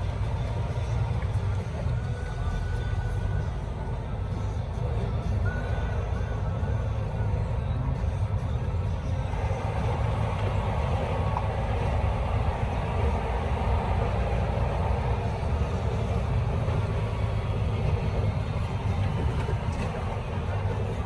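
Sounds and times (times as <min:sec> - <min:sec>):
truck engine and road noise: 0:00.0 - 0:21.0.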